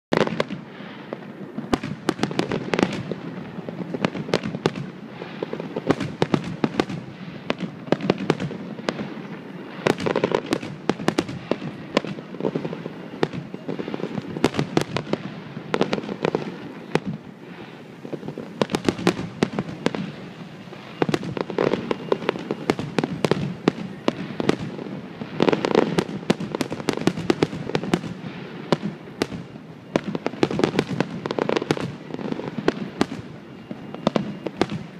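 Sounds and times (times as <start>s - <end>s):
fireworks bangs and crackles: 0.1s - 34.9s.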